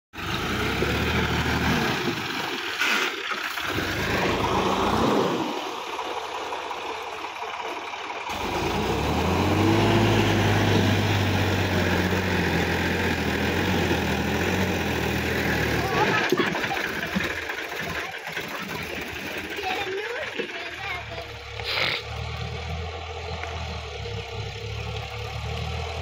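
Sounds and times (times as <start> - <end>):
tractor diesel engine under load: 0.1 - 26.0.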